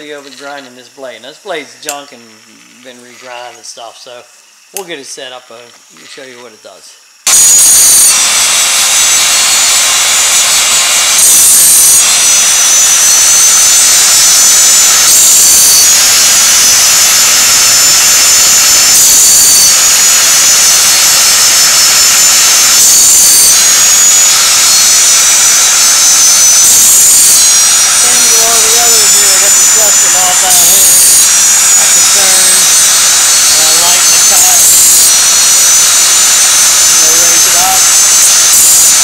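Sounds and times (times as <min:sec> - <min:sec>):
grinding wheel hissing: 0:00.0 - 0:39.0.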